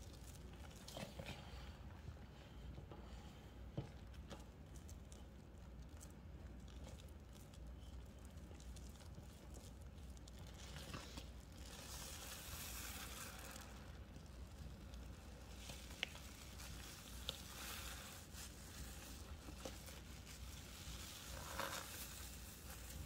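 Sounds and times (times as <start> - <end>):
soft crackles and squelches of paste: 0.0 - 23.0.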